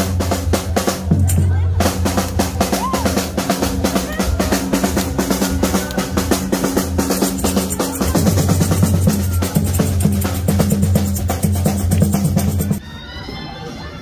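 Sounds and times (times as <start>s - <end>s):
snare and drums beating fast: 0.0s - 12.8s.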